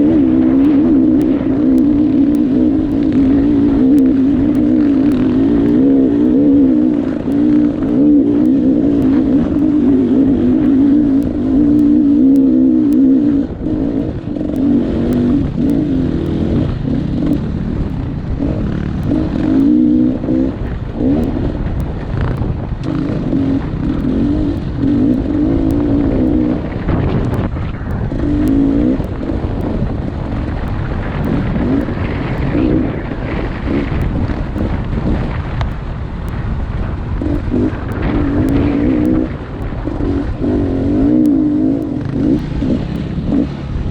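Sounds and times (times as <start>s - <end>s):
dirt bike engine revving: 0.0s - 43.9s
low rumble: 0.0s - 43.9s
sharp ticks: 0.0s - 43.9s.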